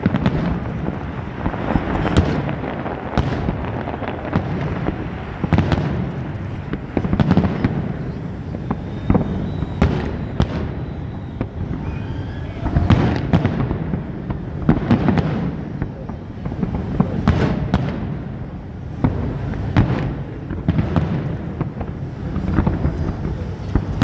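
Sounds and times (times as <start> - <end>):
continuous low rumble: 0.0 - 24.0
fireworks bangs and crackles: 0.0 - 24.0.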